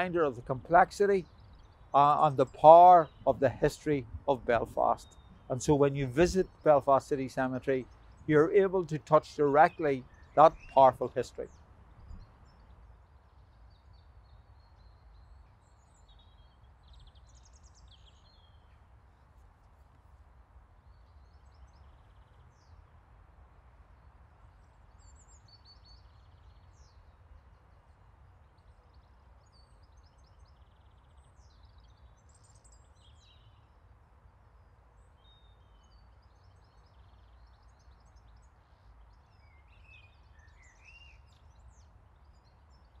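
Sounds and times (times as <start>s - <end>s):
small birds chirping: 0.0s - 19.8s, 24.6s - 33.8s, 35.0s - 43.0s.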